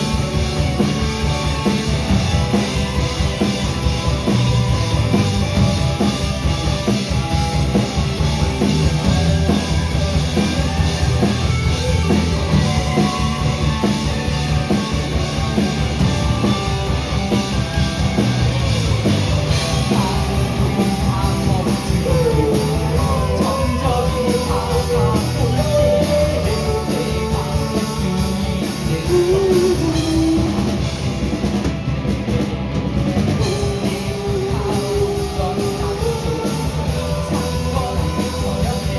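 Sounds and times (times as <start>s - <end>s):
drum kit: 0.0s - 38.9s
live rock band playing: 0.0s - 38.9s.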